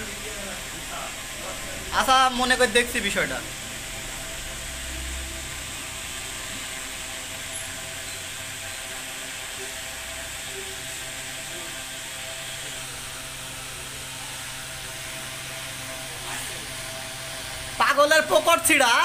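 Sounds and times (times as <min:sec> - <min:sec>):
machine hum and hiss: 0:00.0 - 0:19.0.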